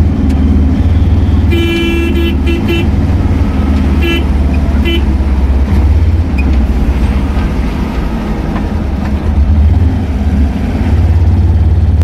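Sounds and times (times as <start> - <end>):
road noise: 0.0 - 12.0
vehicle engines rumbling: 0.0 - 12.0.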